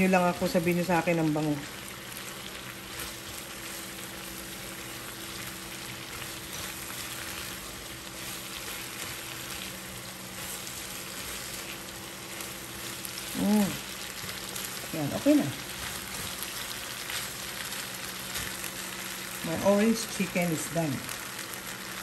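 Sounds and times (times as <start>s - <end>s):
chicken sizzling in a wok: 0.0s - 22.0s
steady low hum: 0.0s - 22.0s
spatula stirring and scraping: 1.8s - 19.5s.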